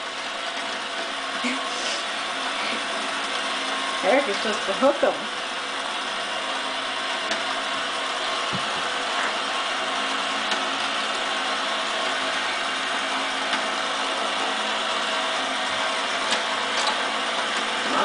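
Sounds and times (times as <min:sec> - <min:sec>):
toy motor whirring: 0:00.8 - 0:05.3, 0:05.9 - 0:18.0.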